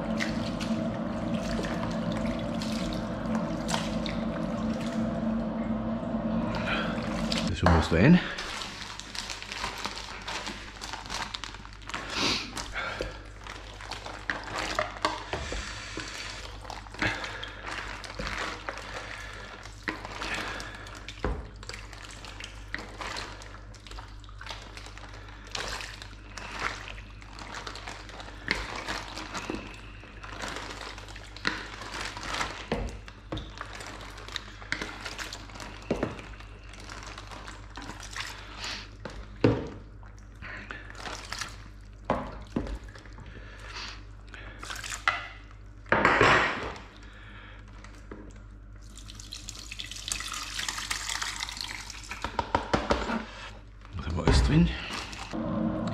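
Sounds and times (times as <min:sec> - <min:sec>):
wet squelching and splashing: 0:00.0 - 0:05.1, 0:06.6 - 0:45.6, 0:46.8 - 0:52.4.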